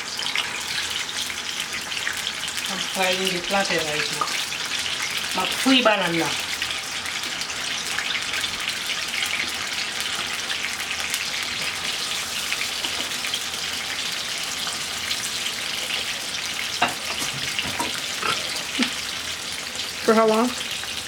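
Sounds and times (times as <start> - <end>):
plantain frying in oil: 0.0 - 21.0.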